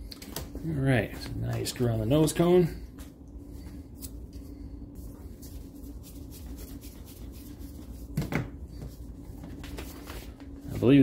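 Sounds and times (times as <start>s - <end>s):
steady low room hum: 0.0s - 11.0s.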